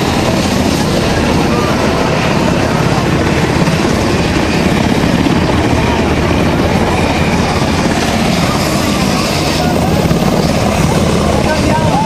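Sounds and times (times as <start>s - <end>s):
helicopter engine: 0.0s - 12.0s
helicopter rotor chopping: 0.0s - 12.0s.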